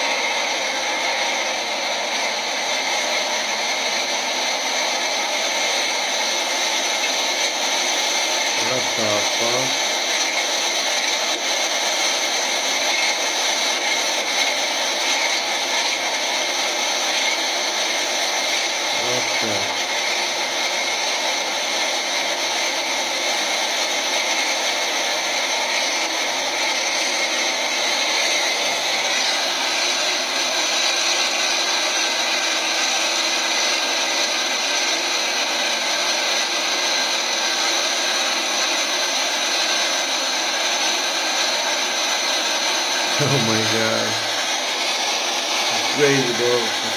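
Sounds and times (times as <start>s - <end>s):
truck engine at high revs: 0.0s - 46.9s.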